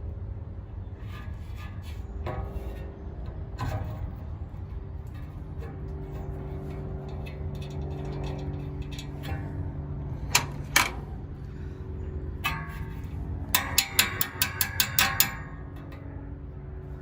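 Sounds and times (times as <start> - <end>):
steady low hum: 0.0 - 17.0
ringing metallic clatter: 1.0 - 17.0.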